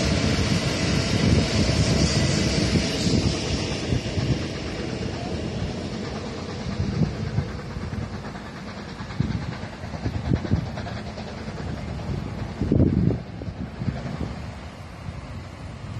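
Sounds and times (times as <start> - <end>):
diesel locomotive engine running: 0.0 - 15.9
wind buffeting microphone: 0.0 - 15.9.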